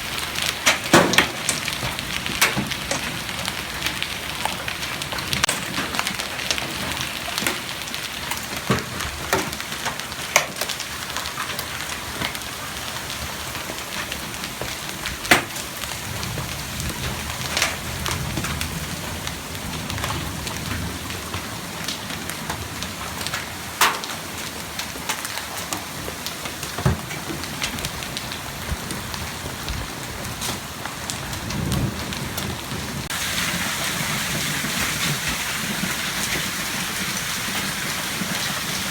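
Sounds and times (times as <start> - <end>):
hail and rain falling: 0.0 - 38.9
hailstones cracking on hard surfaces: 0.0 - 38.9.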